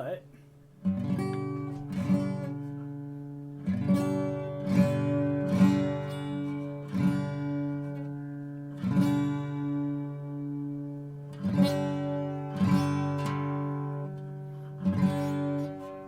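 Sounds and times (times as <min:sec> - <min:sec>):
acoustic guitar strummed slowly: 0:00.0 - 0:16.0.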